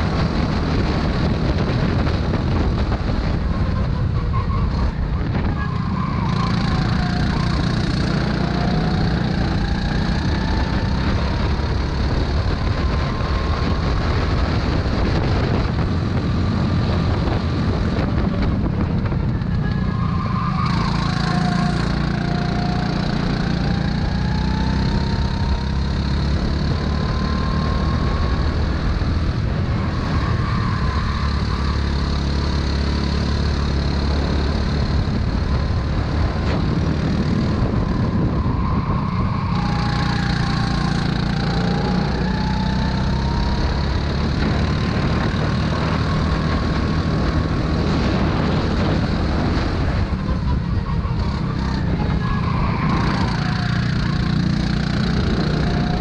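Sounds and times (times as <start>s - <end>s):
racing kart engine: 0.0s - 56.0s.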